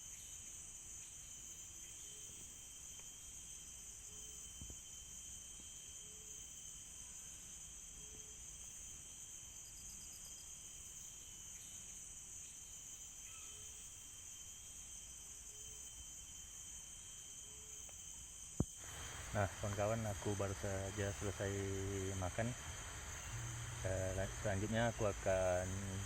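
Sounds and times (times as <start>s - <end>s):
crickets and insects chorus: 0.0s - 26.0s
short rapid insect trill: 0.0s - 26.0s.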